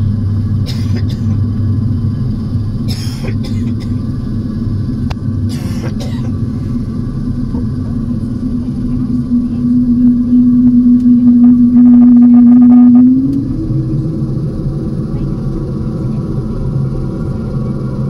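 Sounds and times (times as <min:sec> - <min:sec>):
turboprop engine drone: 0:00.0 - 0:18.0.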